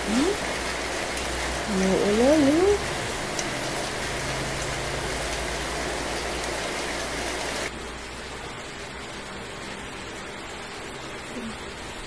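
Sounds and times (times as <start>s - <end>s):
steady rain hissing: 0.0s - 12.0s.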